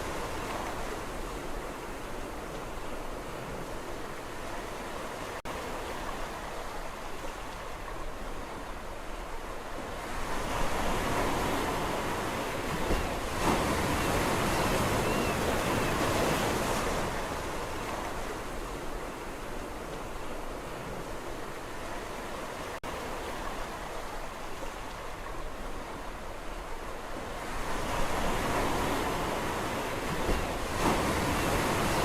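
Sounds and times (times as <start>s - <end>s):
sea waves washing ashore: 0.0s - 32.0s.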